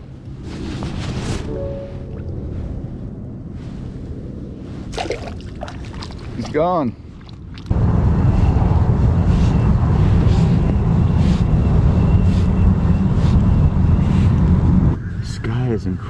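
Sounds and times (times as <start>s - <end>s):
wind buffeting microphone: 2.2s - 16.0s.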